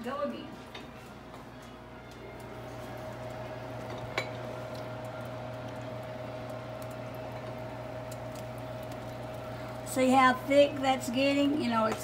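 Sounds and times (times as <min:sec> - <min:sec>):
steady hum: 0:00.0 - 0:12.0
pot of broth boiling: 0:02.4 - 0:12.0.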